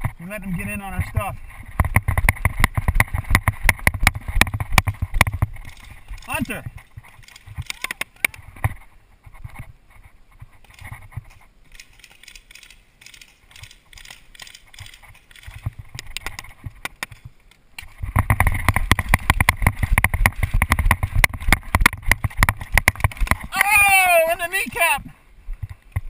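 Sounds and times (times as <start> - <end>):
running footsteps on grass and dirt: 0.0 - 26.0
gear jolting against camera: 1.1 - 23.5
faint pops and clicks: 1.7 - 23.6.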